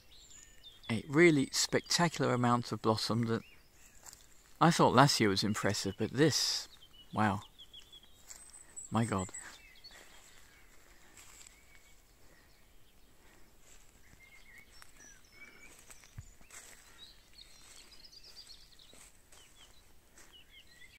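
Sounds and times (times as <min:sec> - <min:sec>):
distant bird chirps: 0:00.0 - 0:20.9.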